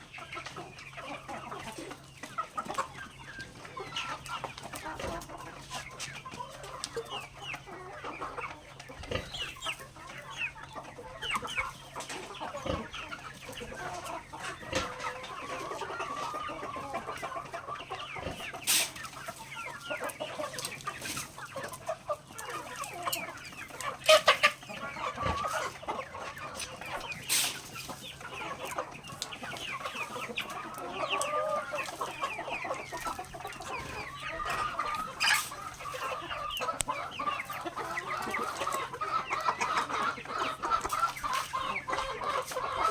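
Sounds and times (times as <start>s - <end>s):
chickens clucking: 0.0s - 42.9s
chickens pecking taps: 0.0s - 42.9s.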